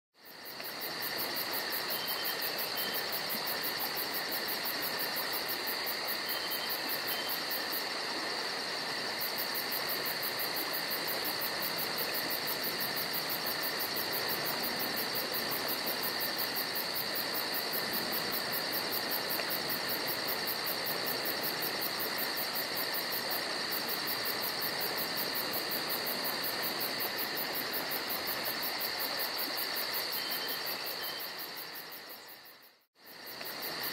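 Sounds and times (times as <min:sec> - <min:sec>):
crickets trilling: 0:00.2 - 0:33.9
faint hiss: 0:00.2 - 0:33.9.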